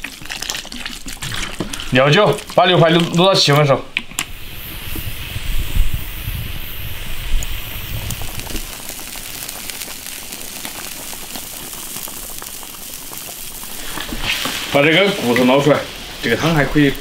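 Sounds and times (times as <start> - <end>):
broth bubbling in a wok: 0.0 - 17.0
fire low rumble: 1.7 - 17.0.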